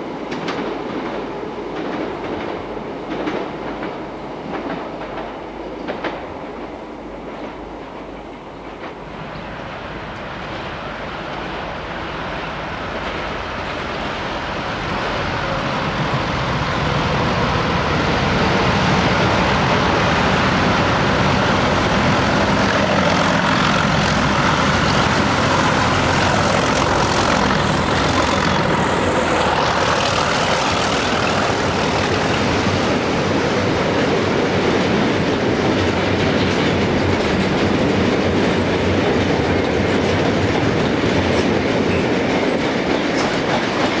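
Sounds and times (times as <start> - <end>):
diesel locomotive passing: 0.0 - 44.0
train wheels clacking over rail joints: 0.3 - 9.5, 16.7 - 44.0.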